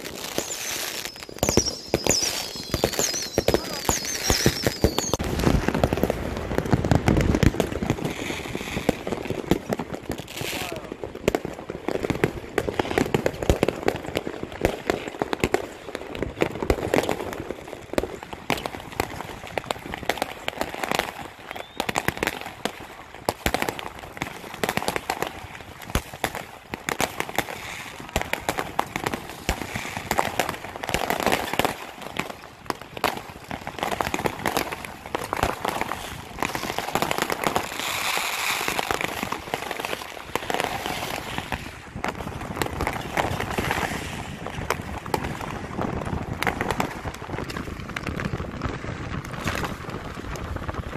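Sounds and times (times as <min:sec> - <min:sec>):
fireworks cracking and banging: 0:00.0 - 0:50.9.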